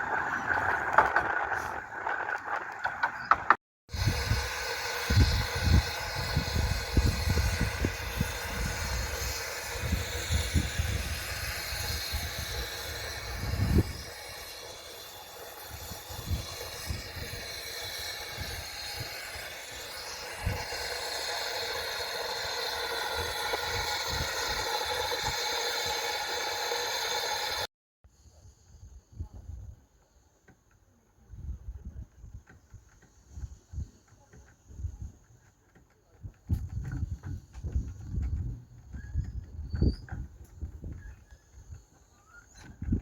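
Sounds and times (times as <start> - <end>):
miniature train rumbling with hiss: 3.9 - 43.0.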